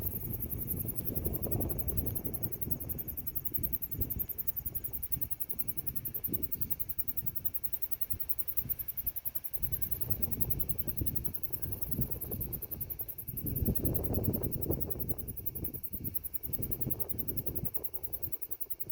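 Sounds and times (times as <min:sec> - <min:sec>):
crickets trilling: 0:00.0 - 0:18.9
wind buffeting microphone: 0:00.0 - 0:18.9.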